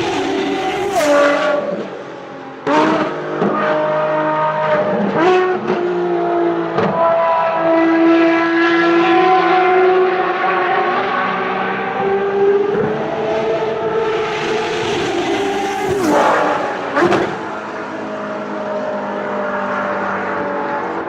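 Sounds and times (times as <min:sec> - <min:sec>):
racing car engine shifting gears: 0:00.0 - 0:21.0.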